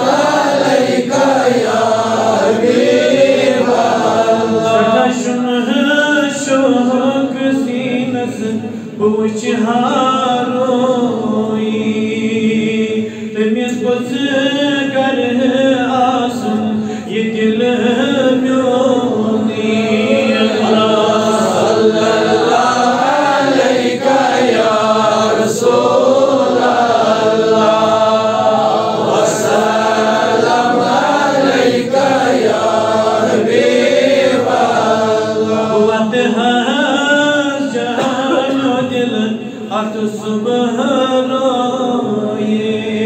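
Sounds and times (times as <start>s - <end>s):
voices chanting devotional recitation: 0.0s - 43.0s.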